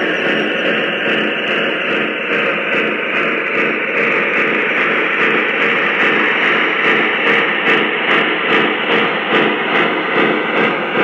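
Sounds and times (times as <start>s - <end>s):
model train hissing rush: 0.0s - 11.0s.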